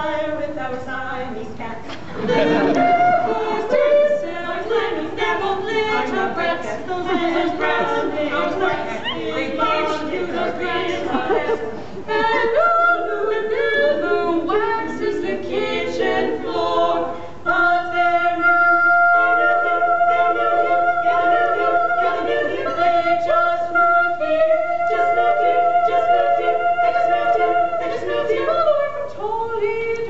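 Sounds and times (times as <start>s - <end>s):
women singing a cappella: 0.0s - 30.0s.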